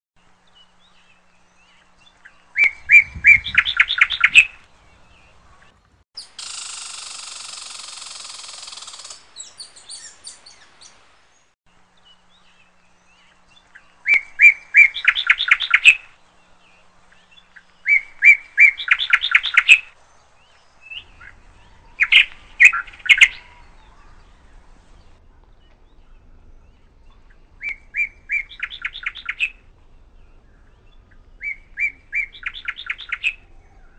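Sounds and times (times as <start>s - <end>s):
birdsong with quick chirping notes: 0.2s - 33.9s.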